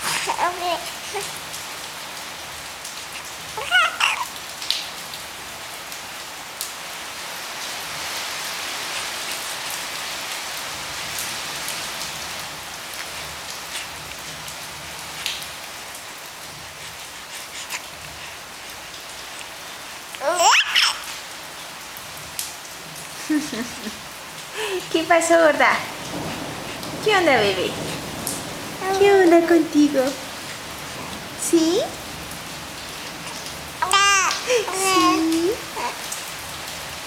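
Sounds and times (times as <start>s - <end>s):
rain-like hiss: 0.0s - 37.0s.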